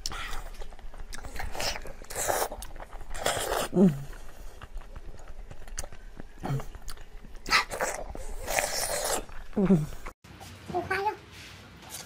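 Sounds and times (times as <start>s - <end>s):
eating slurps and bites: 0.0s - 10.1s.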